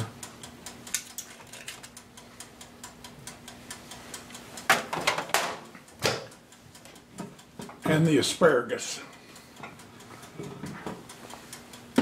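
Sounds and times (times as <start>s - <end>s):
mechanical timer ticking: 0.0s - 12.0s.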